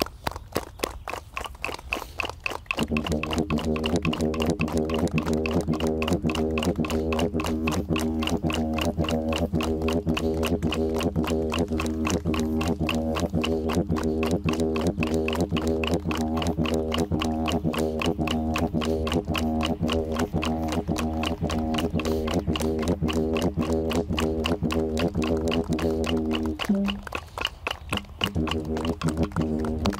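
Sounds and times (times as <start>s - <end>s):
didgeridoo pulsing drone: 2.6s - 29.9s.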